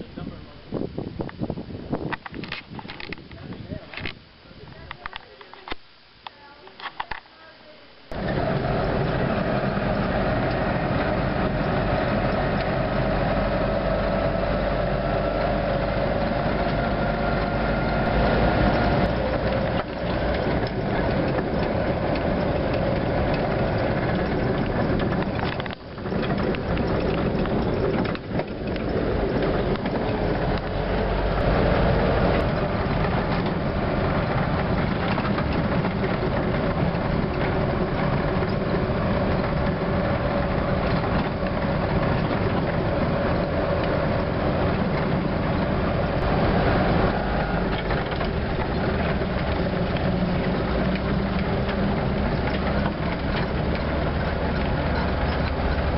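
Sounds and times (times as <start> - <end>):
steady whine: 7.8 - 55.9
vehicle engine rumbling: 7.9 - 55.9.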